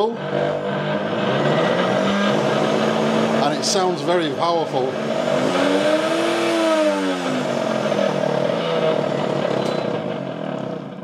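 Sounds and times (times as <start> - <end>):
blender motor whining: 0.0 - 11.0.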